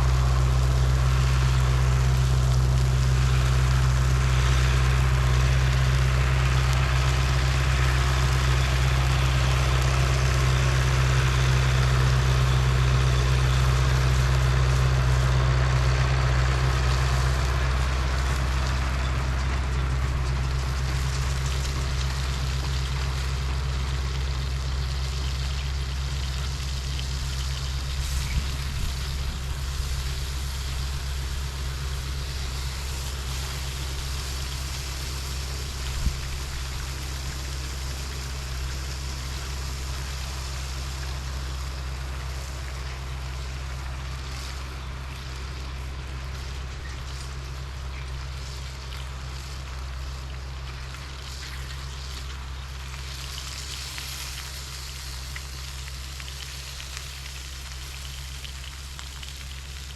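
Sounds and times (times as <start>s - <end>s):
heavy engine humming: 0.0s - 59.9s.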